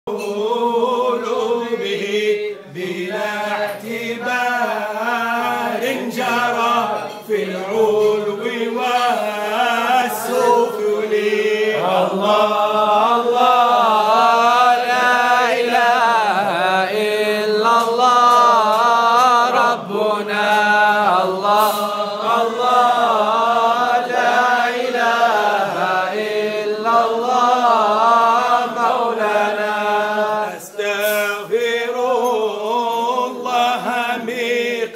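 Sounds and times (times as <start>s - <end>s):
men chanting a devotional song: 0.1s - 34.9s.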